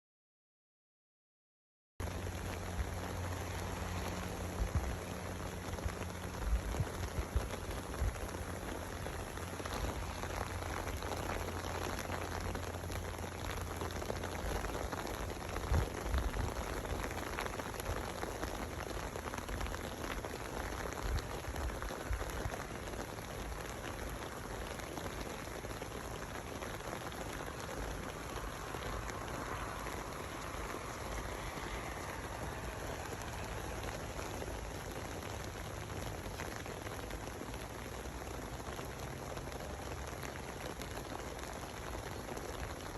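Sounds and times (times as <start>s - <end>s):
rain on an umbrella: 2.0s - 42.9s.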